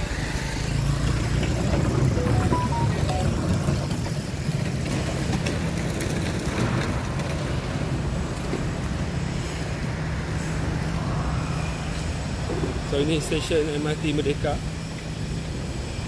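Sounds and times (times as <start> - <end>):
traffic engine hum and tyre noise: 0.0 - 16.0.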